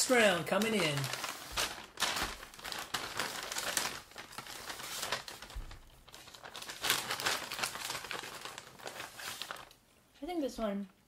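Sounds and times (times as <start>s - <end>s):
paper bags rustling and crinkling: 0.0s - 9.8s.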